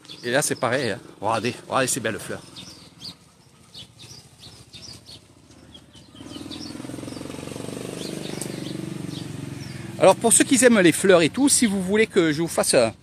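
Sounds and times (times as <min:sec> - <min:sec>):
birds chirping faintly: 0:00.0 - 0:13.0
small motorcycle engine droning: 0:00.0 - 0:13.0.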